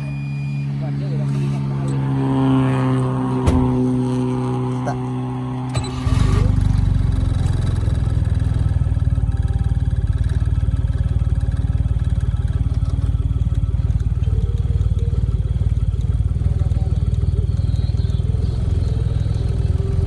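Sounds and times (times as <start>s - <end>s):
car engine starting and idling: 0.0s - 20.0s.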